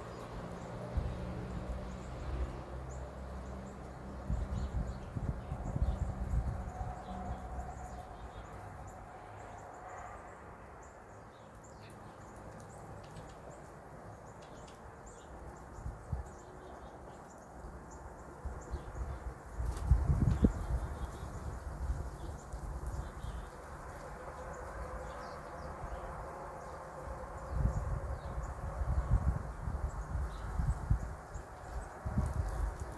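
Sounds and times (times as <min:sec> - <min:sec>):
small birds chirping: 0:00.0 - 0:09.8, 0:10.8 - 0:32.9.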